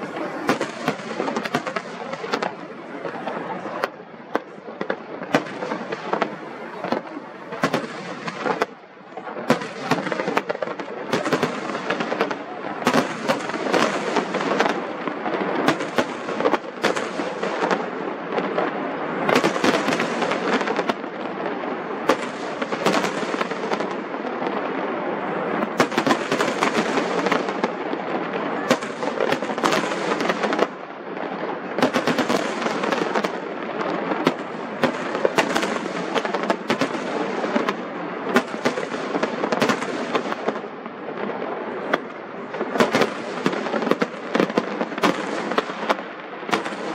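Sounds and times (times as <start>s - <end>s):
firework bangs: 0.0s - 46.9s
firework crackle: 0.0s - 46.9s.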